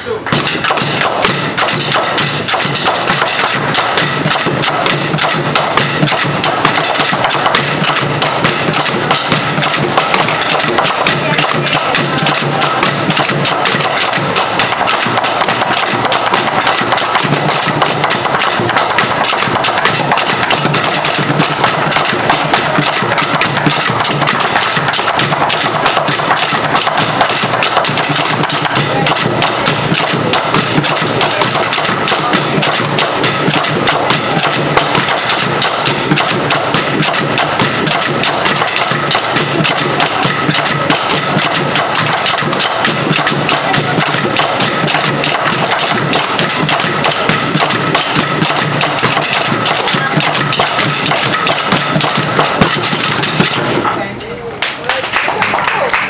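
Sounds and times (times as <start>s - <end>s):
sticks drumming on plastic cans: 0.3s - 54.0s.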